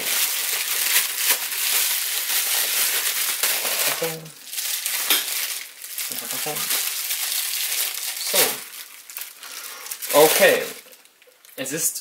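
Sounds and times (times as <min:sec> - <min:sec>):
bubble wrap crackling: 0:00.0 - 0:11.7.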